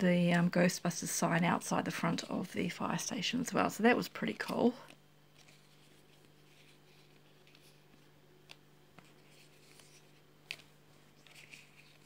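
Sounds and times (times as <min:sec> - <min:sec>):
faint freezer hum: 0:00.0 - 0:12.0.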